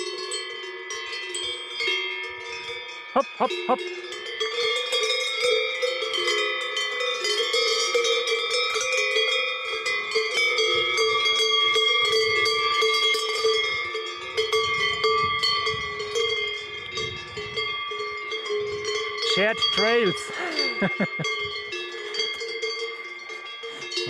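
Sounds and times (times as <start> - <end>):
cowbells clanking and ringing: 0.0 - 24.0.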